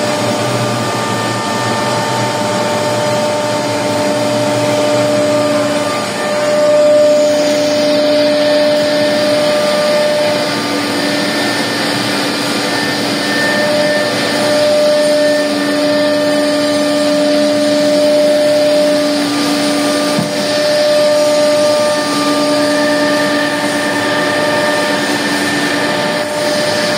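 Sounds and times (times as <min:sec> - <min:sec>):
machinery whining and humming: 0:00.0 - 0:26.9.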